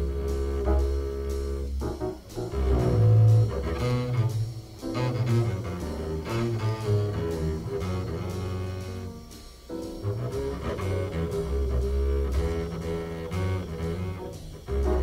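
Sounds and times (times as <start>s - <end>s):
jazz double bass line: 0.0s - 15.0s.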